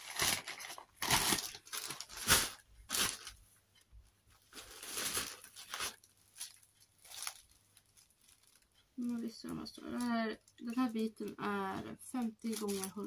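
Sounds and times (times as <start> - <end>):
plastic bag rustling and crinkling: 0.0 - 3.4, 4.3 - 13.0.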